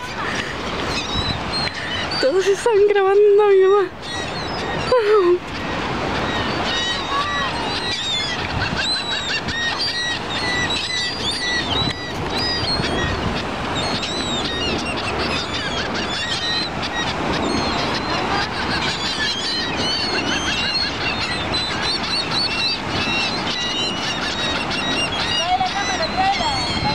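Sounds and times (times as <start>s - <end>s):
gulls calling: 0.0s - 26.9s
surf rushing: 0.0s - 26.9s
wind: 0.0s - 26.9s.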